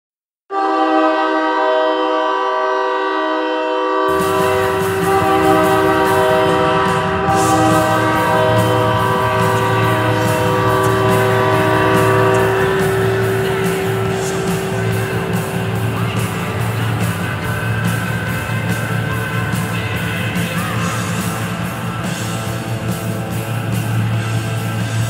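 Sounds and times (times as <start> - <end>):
goal horn blast: 0.5 - 22.3
noisy rumbling: 4.1 - 25.0.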